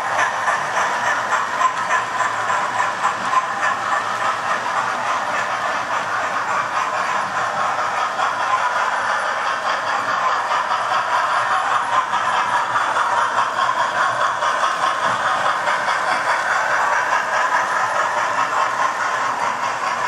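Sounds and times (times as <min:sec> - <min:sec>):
model train motors whirring: 0:00.0 - 0:20.0
wheels rolling on track: 0:00.0 - 0:20.0.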